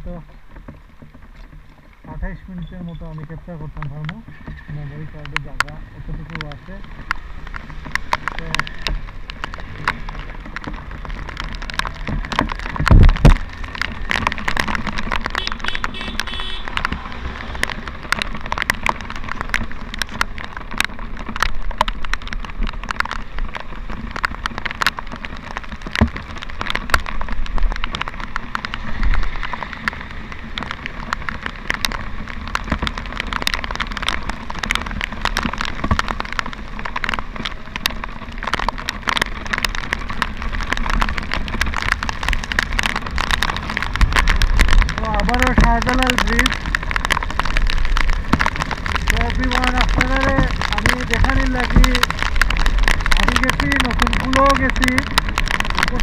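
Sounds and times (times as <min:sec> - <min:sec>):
engine and road noise rumble: 0:00.0 - 0:56.0
rain tapping on camera: 0:00.0 - 0:56.0.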